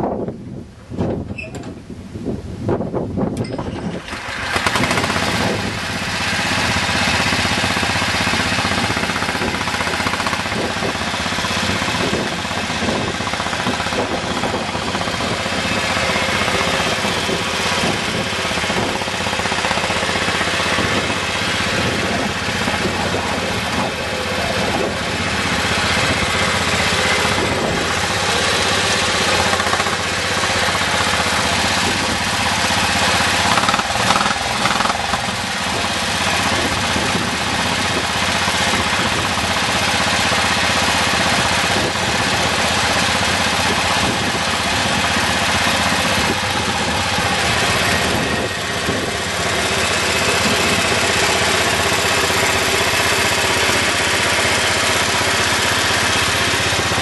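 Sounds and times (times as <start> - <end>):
tractor engine running: 2.6 - 57.0.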